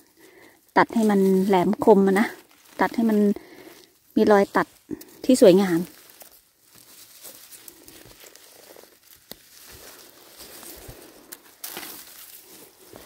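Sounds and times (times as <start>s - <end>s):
faint rustling and handling: 0.0s - 13.0s.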